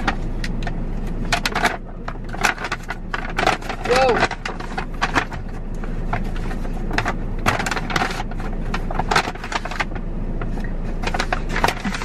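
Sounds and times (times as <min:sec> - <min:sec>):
low car cabin hum: 0:00.0 - 0:12.0
paper bags rustling and crinkling: 0:01.2 - 0:12.0.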